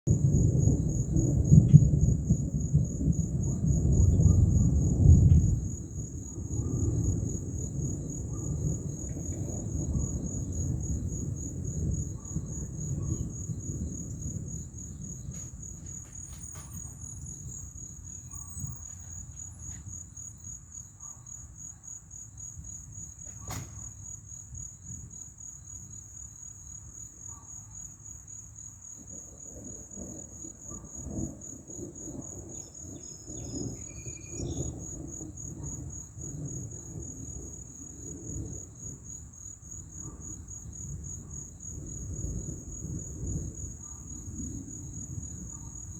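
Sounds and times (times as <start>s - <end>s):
low rumble of thunder: 0.1s - 45.9s
insects trilling: 0.2s - 45.9s.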